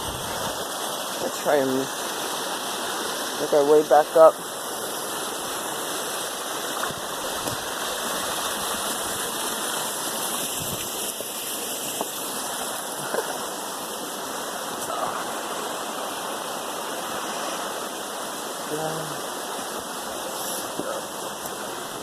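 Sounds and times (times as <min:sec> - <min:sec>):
waterfall and river rushing: 0:00.0 - 0:22.0.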